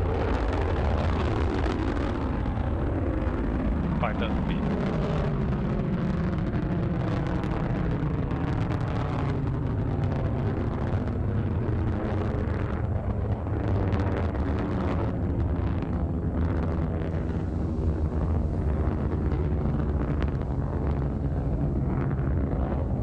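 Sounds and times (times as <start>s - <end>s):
rocket engine rumbling: 0.0s - 23.0s.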